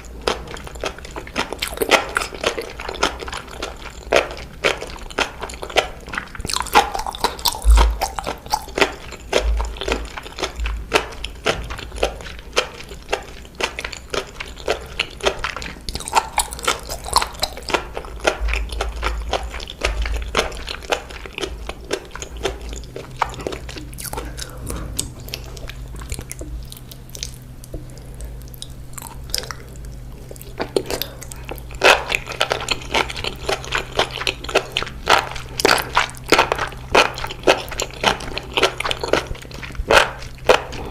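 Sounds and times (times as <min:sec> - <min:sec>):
chewing and crunching seaweed: 0:00.0 - 0:40.9.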